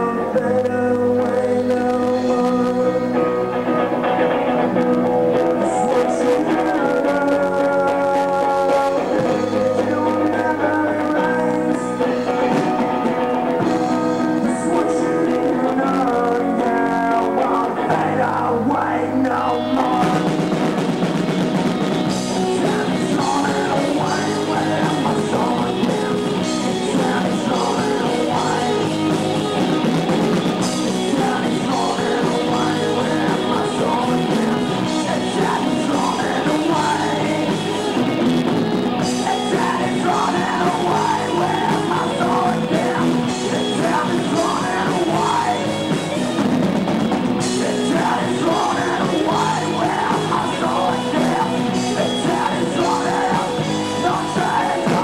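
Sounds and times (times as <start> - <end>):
drums: 0.0 - 55.0
electric guitar chords: 0.0 - 55.0
person singing: 0.0 - 55.0
rock band playing live: 0.0 - 55.0.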